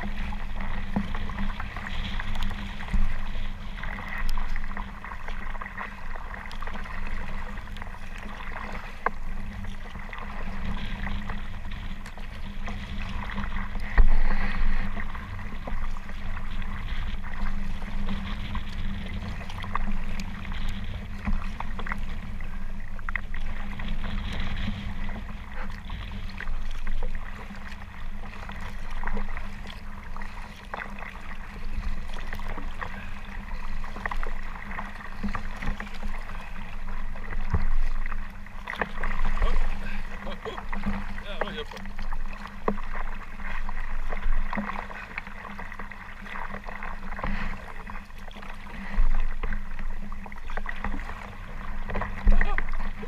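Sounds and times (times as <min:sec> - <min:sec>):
paddle splashing water: 0:00.0 - 0:53.0
waves slapping against hull: 0:00.0 - 0:53.0.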